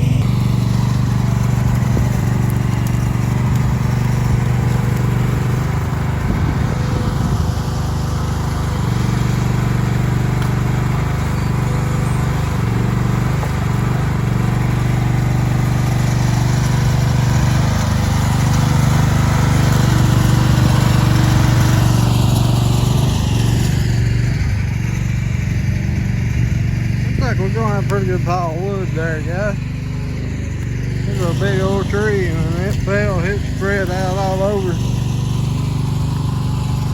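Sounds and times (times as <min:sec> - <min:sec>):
machine engine running: 0:00.0 - 0:36.9.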